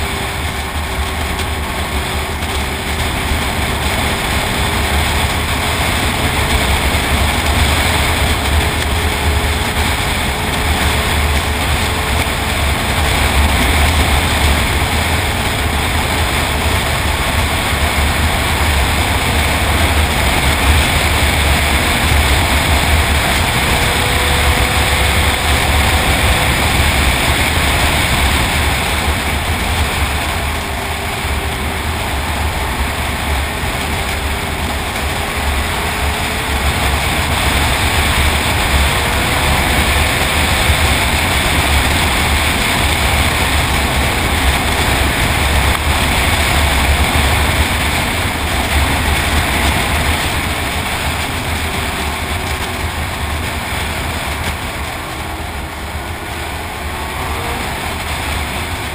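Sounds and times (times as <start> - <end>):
snowmobile engine running: 0.0 - 58.9
wind rumble on microphone: 0.0 - 58.9.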